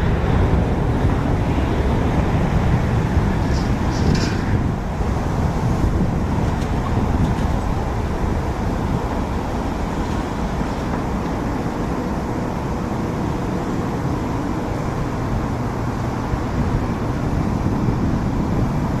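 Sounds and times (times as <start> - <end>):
jet engines rumbling at takeoff: 0.0 - 19.0.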